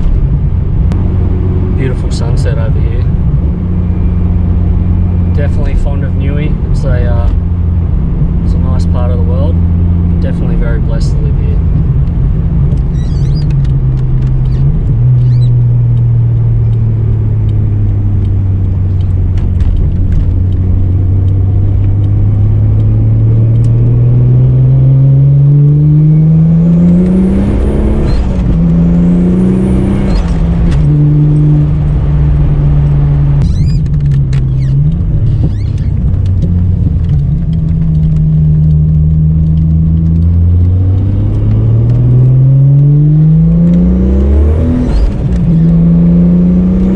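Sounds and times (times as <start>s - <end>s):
car engine revving while driving: 0.0s - 46.9s.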